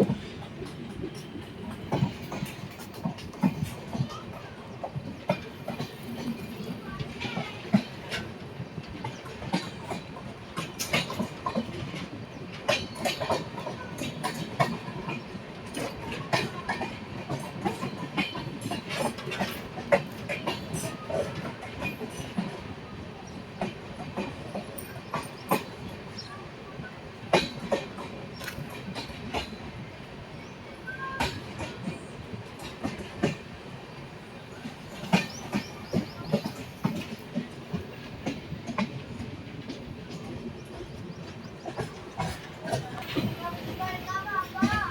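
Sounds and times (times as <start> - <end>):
train wheels clacking over rail joints: 0.0 - 26.4, 27.1 - 30.3, 30.9 - 44.9
steady train rumble: 0.0 - 44.9.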